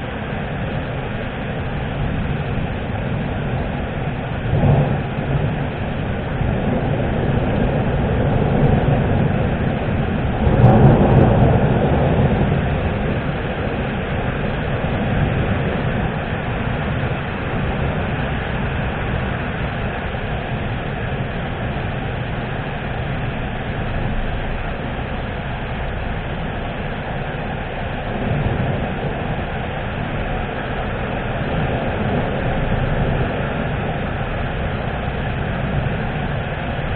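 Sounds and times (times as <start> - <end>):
steady rain: 0.0 - 36.9
thunder rumbling: 0.0 - 36.9.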